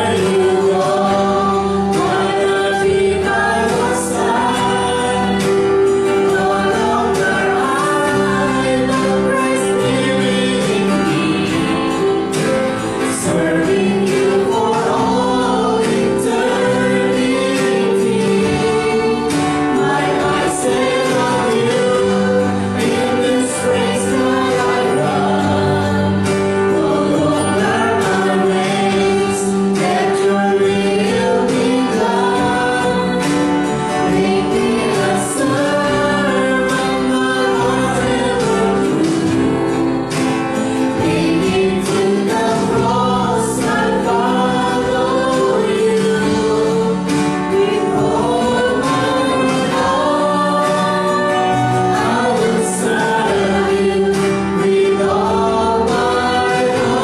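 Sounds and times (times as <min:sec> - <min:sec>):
acoustic guitar: 0:00.0 - 0:57.0
group singing a praise song: 0:00.0 - 0:57.0
live band: 0:00.0 - 0:57.0.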